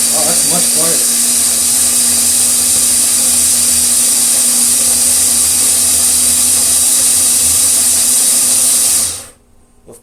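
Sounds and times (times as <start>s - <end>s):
coffee grinder grinding beans: 0.0s - 9.4s.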